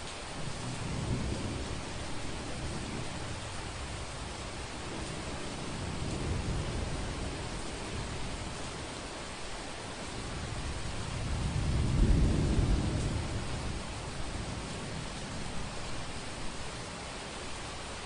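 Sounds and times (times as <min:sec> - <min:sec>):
rain hiss: 0:00.0 - 0:18.0
thunder rumbling: 0:00.4 - 0:09.1, 0:09.9 - 0:17.0.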